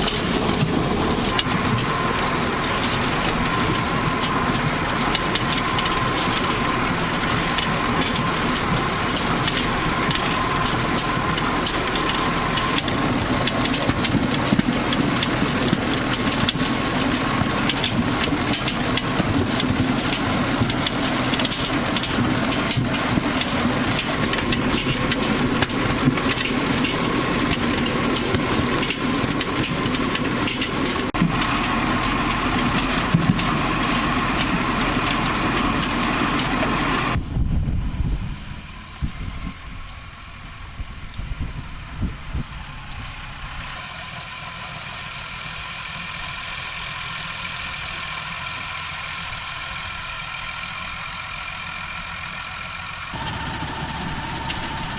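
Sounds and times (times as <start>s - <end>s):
potato harvester clattering: 0.0s - 37.2s, 45.3s - 54.9s
tractor engine running: 0.0s - 54.9s.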